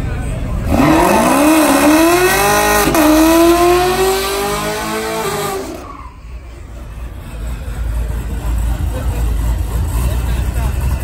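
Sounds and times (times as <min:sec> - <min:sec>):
racing car engine at full throttle: 0:00.0 - 0:11.0.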